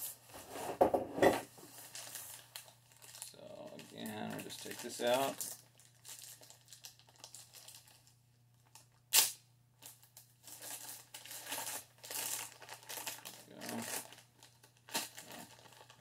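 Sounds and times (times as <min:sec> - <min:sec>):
plastic bag crinkling: 0:01.7 - 0:09.0, 0:09.8 - 0:16.0
plastic packaging ripping: 0:01.8 - 0:16.0.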